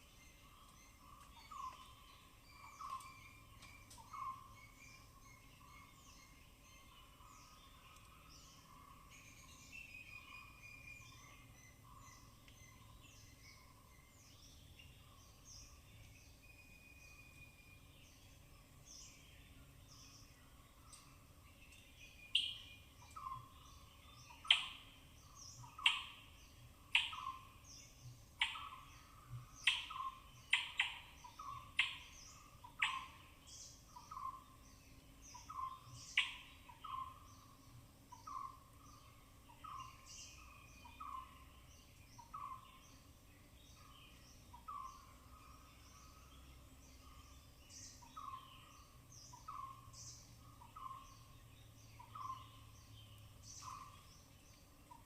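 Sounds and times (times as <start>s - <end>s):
forest background noise: 0.0s - 55.0s.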